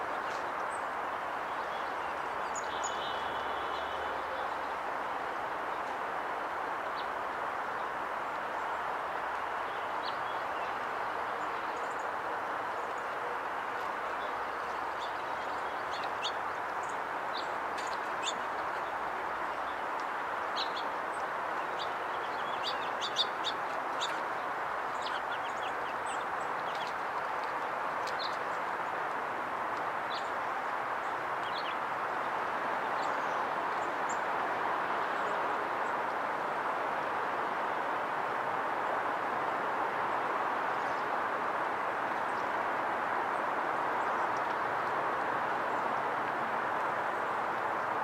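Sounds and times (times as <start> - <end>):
songbirds chirping: 0.0 - 48.0.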